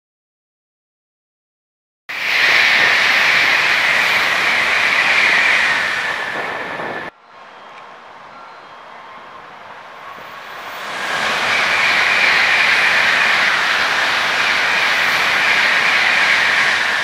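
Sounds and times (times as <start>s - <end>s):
high-speed train rushing past: 2.1s - 17.0s.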